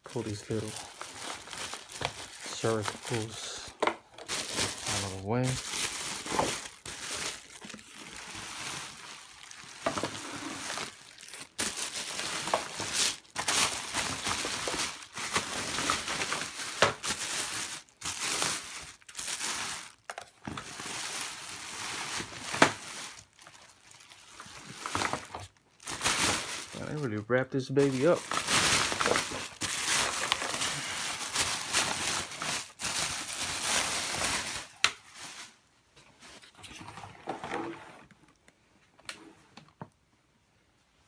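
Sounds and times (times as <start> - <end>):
plastic packaging crinkling: 0.0 - 35.7.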